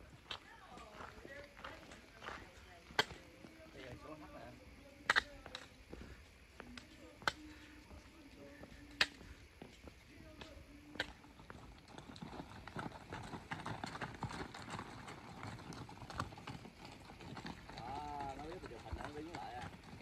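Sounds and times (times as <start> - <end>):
hooves clopping on gravel: 0.0 - 20.0.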